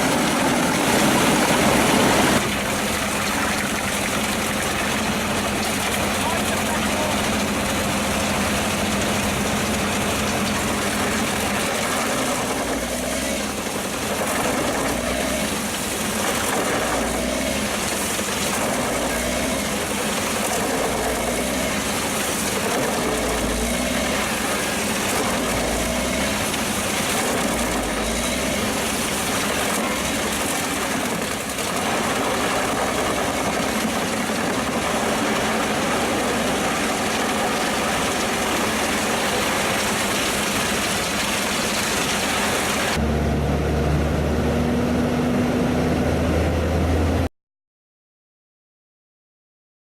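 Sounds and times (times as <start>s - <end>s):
wood chipper running: 0.0s - 47.3s.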